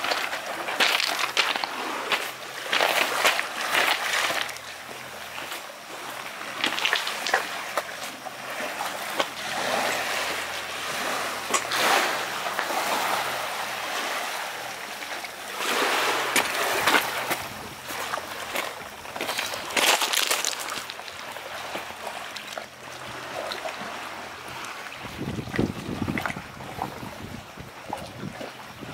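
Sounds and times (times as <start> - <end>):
waves lapping on pebble shore: 0.0 - 28.9.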